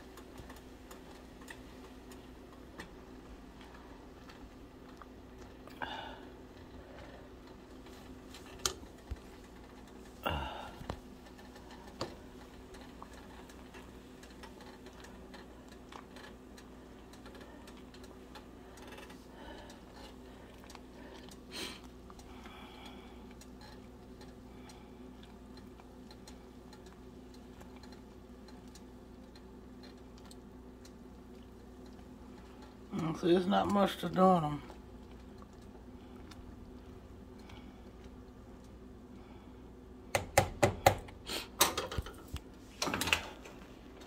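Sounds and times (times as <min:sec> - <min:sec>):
pot simmering with ticks and pops: 0:00.0 - 0:44.0
steady low hum: 0:00.0 - 0:44.0.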